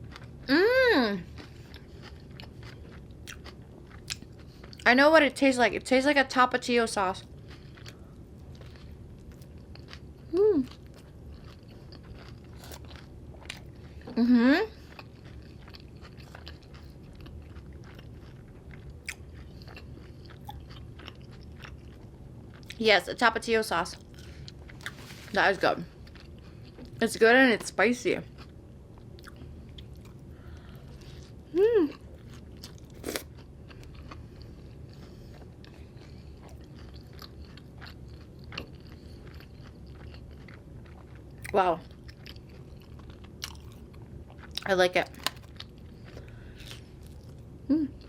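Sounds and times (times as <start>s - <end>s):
chewing with mouth clicks: 1.2s - 4.9s, 7.2s - 14.2s, 14.8s - 22.8s, 25.9s - 27.0s, 28.2s - 48.0s.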